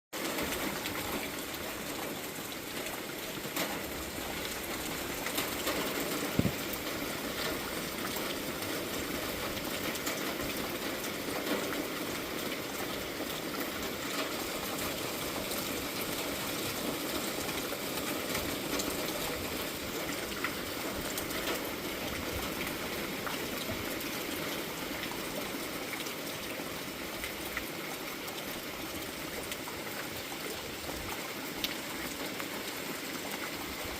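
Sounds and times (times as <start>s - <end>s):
raindrops ticking nearby: 0.2s - 33.9s.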